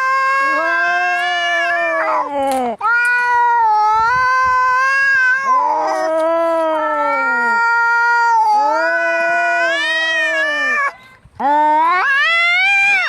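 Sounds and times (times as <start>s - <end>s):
cats yowling: 0.0s - 11.0s.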